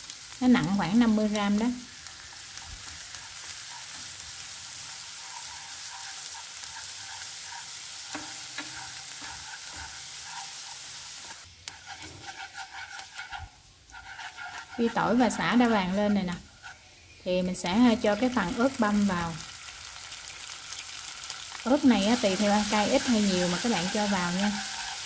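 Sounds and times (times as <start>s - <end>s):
garlic sizzling in hot oil: 0.0s - 25.0s
chopsticks stirring in pan: 0.6s - 19.5s, 21.3s - 25.0s.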